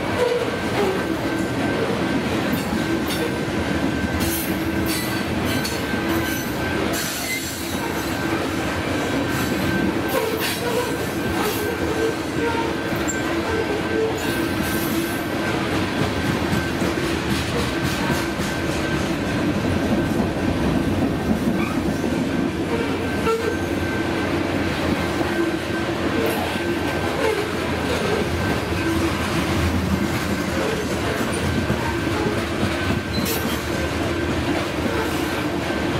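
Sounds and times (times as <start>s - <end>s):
train wheels rumbling: 0.0s - 35.9s.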